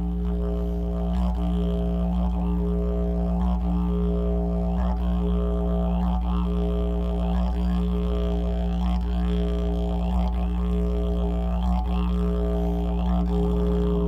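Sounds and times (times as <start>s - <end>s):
didgeridoo low drone: 0.0s - 14.0s.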